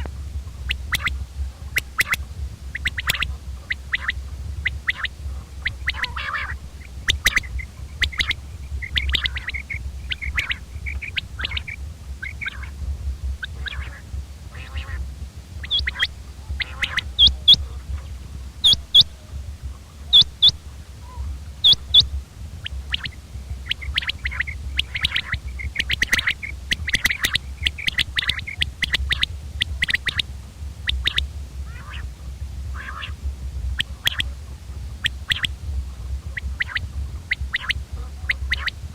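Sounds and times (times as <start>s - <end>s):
quail calling: 0.0s - 38.9s
steady low hum: 0.0s - 38.9s.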